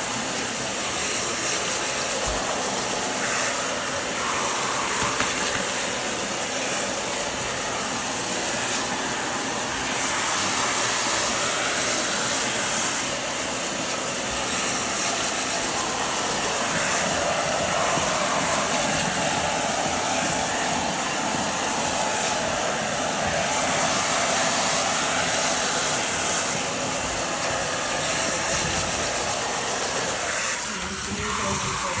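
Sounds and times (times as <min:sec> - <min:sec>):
hair dryer blowing: 0:00.0 - 0:32.0.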